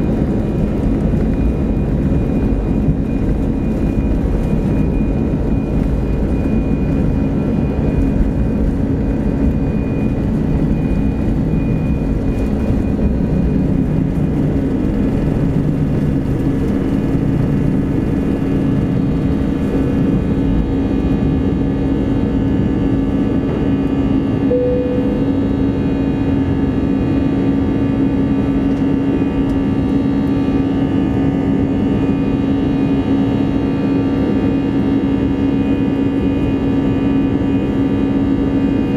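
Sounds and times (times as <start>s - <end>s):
jet engines roaring: 0.0s - 38.9s
wheels rumbling on runway: 0.0s - 38.9s.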